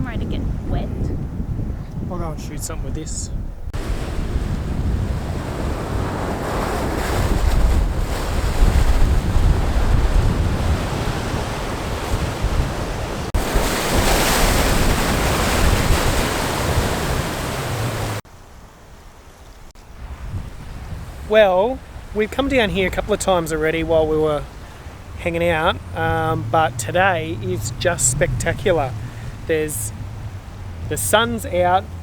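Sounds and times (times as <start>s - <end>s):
wind buffeting microphone: 0.0s - 18.2s, 19.9s - 32.0s
sea waves washing over shore: 3.8s - 19.0s, 19.6s - 32.0s.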